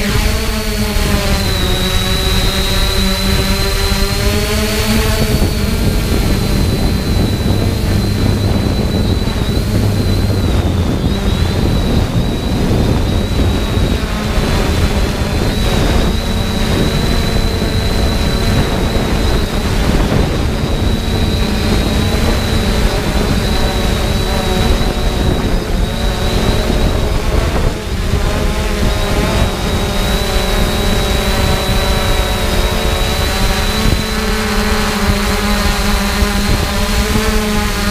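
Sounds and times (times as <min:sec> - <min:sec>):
drone propellers whining: 0:00.0 - 0:37.9
wind rushing over microphone: 0:00.0 - 0:37.9.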